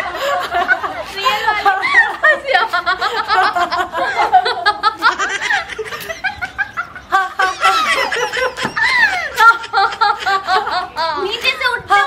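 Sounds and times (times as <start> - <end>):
women laughing theatrically: 0.0 - 11.4.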